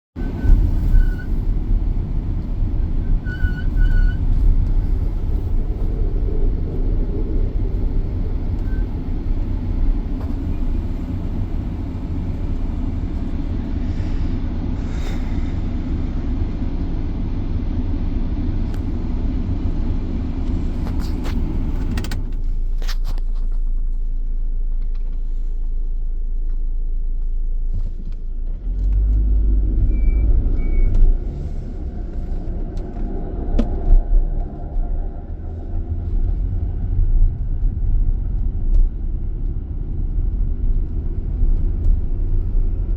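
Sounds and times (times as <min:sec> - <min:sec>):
van driving low rumble: 0:00.0 - 0:42.9.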